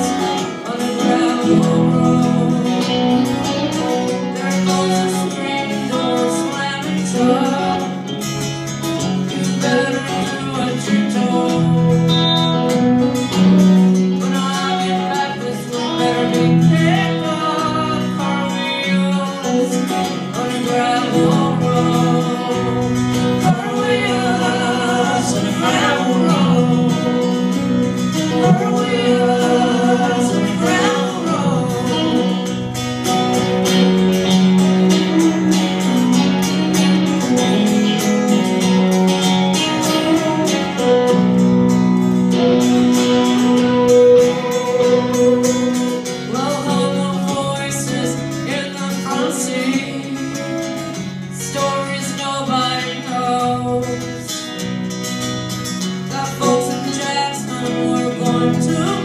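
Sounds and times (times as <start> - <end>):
person singing: 0.0 - 54.7, 56.0 - 59.0
electric guitar: 0.0 - 59.0
strummed acoustic guitar: 0.0 - 59.0.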